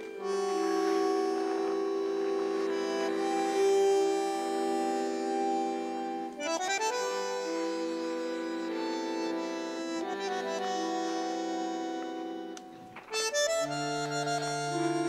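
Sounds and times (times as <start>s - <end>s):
bandoneon tango music: 0.0s - 15.0s.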